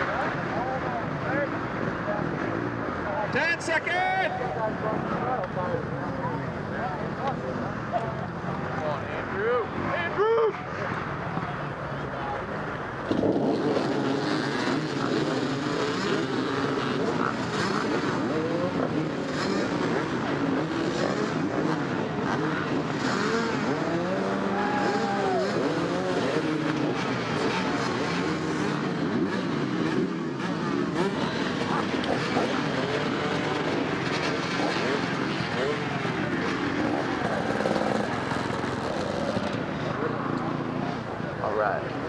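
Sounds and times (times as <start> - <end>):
dirt bikes revving and accelerating: 0.0 - 42.0.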